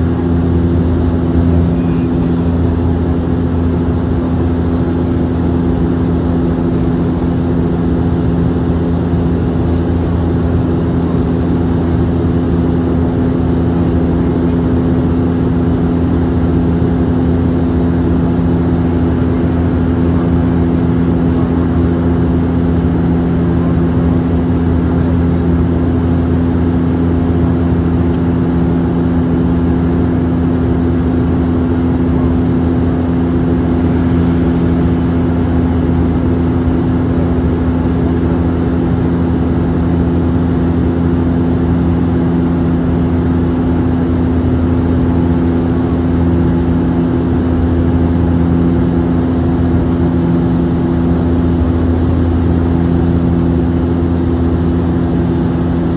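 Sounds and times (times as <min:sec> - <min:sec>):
turboprop engines in cabin: 0:00.0 - 0:55.9.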